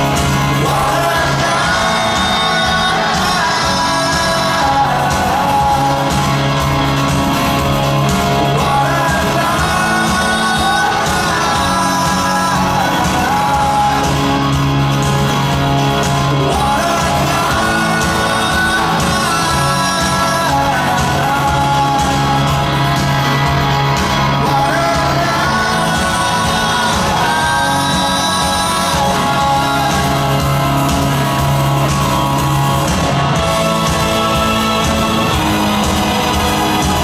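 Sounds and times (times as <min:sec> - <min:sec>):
live rock band: 0:00.0 - 0:37.0
person singing lead vocal: 0:00.0 - 0:37.0.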